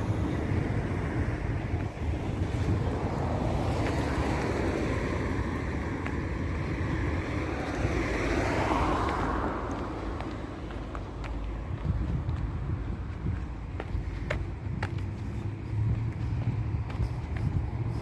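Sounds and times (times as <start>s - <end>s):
traffic noise: 0.0s - 18.0s
wind buffeting microphone: 0.0s - 18.0s.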